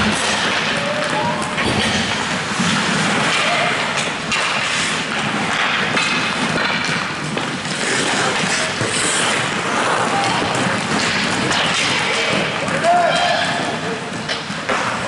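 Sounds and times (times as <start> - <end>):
skates scraping ice: 0.0 - 15.0
sticks striking puck: 0.0 - 15.0.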